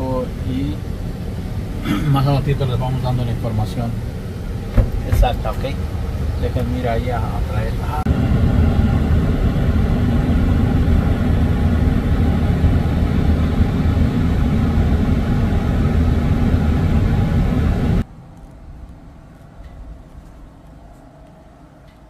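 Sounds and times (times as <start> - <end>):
car engine idling: 0.0 - 18.1
faint outdoor ambience: 0.0 - 22.0.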